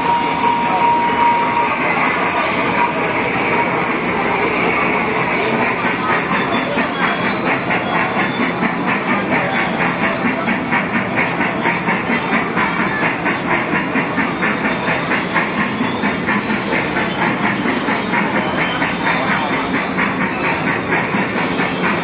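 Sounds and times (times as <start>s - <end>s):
ride-on train rhythmic clatter: 0.0s - 22.0s.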